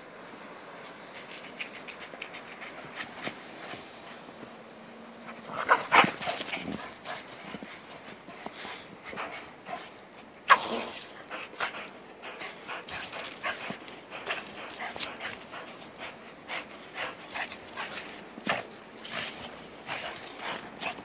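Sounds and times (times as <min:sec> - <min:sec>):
dogs panting and huffing: 0:00.7 - 0:04.6, 0:05.2 - 0:21.0.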